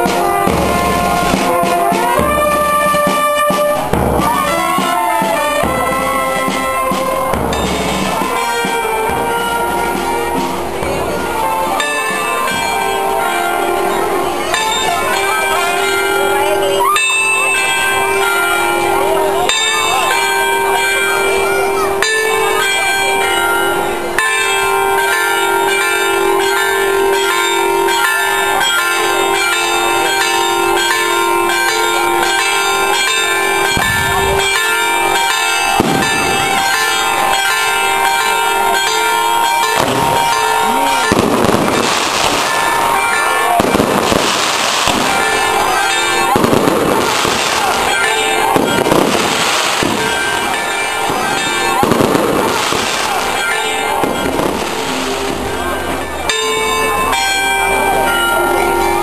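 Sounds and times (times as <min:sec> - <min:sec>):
fireworks crackling bursts: 0:00.0 - 0:24.2, 0:24.9 - 0:59.0
ringing bell-like tones: 0:00.0 - 0:59.0.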